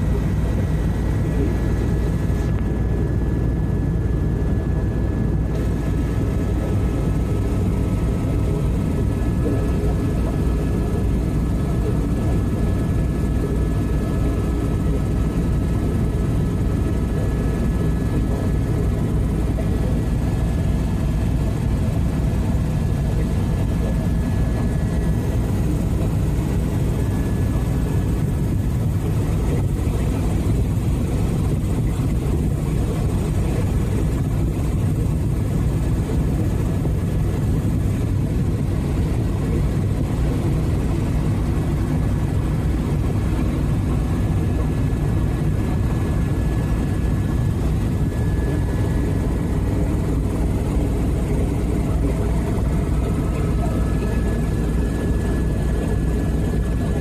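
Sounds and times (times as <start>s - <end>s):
helicopter rotor and turbine drone: 0.0s - 57.0s
thin steady whine: 0.0s - 57.0s.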